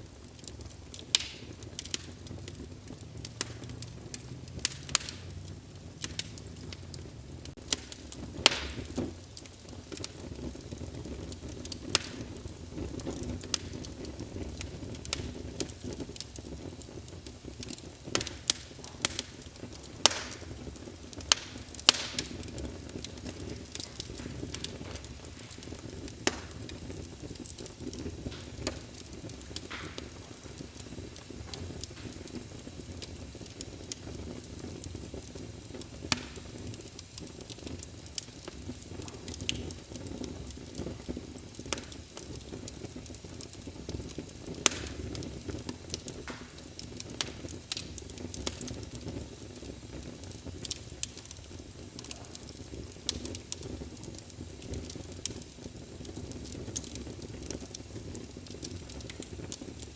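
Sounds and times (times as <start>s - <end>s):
fire rumble and hiss: 0.0s - 59.9s
wood fire crackling and popping: 0.0s - 59.9s.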